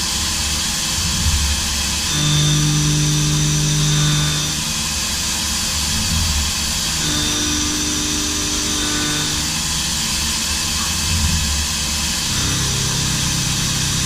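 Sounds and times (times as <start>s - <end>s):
milling machine and coolant noise: 0.0s - 14.0s.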